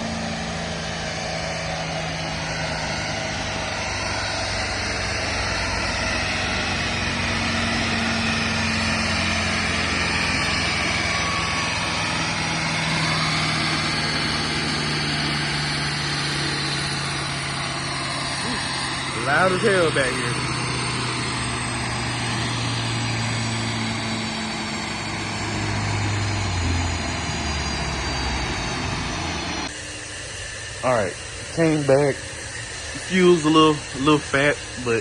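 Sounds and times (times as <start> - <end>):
loud car engine on dyno: 0.0 - 35.0.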